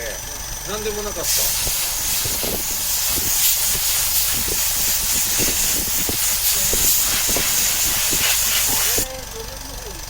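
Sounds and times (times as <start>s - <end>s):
loud steady hiss: 1.0s - 9.2s.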